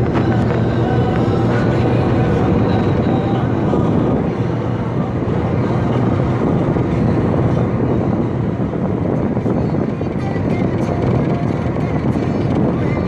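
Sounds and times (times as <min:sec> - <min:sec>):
car driving on a highway: 0:00.0 - 0:13.0.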